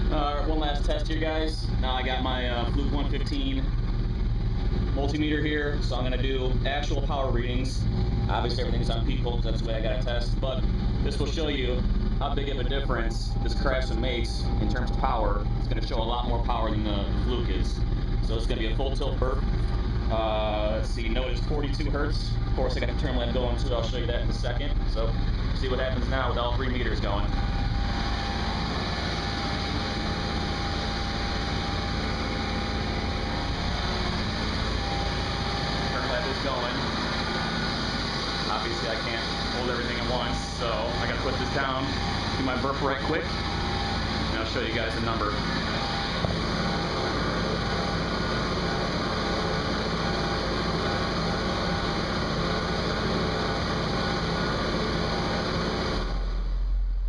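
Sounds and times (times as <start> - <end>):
car engine idling: 0.0 - 57.0
subwoofer bass drone: 0.0 - 57.0.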